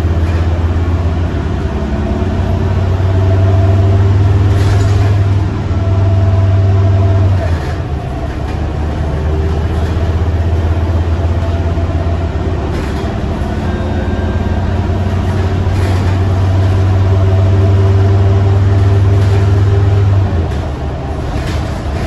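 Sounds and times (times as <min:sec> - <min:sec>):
bus diesel engine humming: 0:00.0 - 0:22.0.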